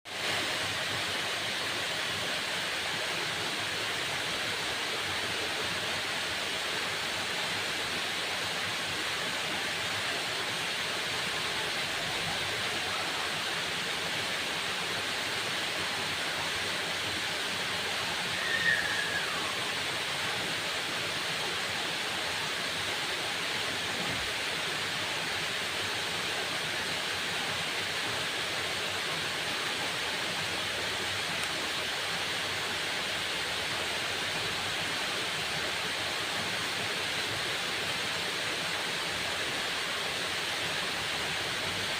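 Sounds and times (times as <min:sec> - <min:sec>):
waterfall roaring: 0:00.1 - 0:41.9.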